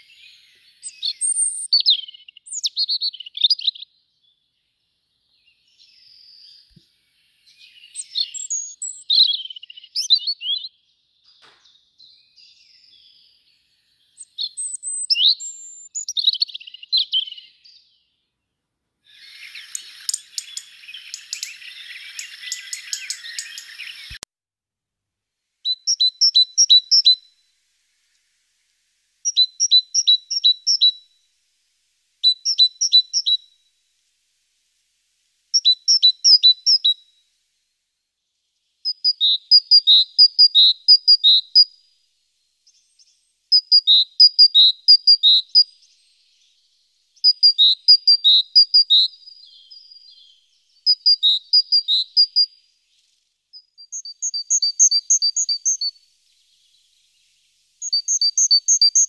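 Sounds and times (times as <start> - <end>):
great tit singing: 0.0 - 4.4, 5.4 - 18.1, 19.1 - 24.2, 25.7 - 27.3, 29.2 - 31.0, 32.2 - 33.4, 35.5 - 37.0, 38.6 - 41.8, 42.6 - 59.0.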